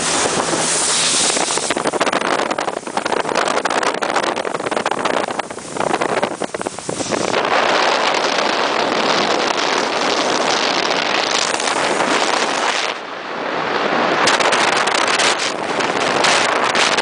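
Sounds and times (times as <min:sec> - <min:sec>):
water rushing past boat hull: 0:00.0 - 0:17.0
wind buffeting microphone: 0:00.0 - 0:17.0.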